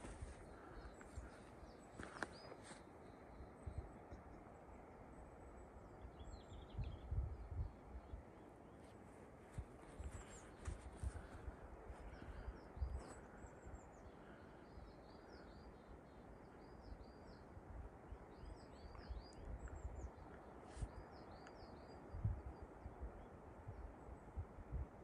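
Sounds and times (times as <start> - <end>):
faint outdoor rumble: 0.0 - 25.0
songbirds chirping: 0.0 - 25.0.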